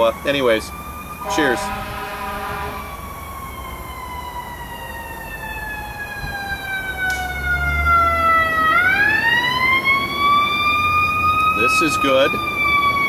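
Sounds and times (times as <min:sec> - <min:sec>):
fire siren wailing: 0:00.0 - 0:13.0.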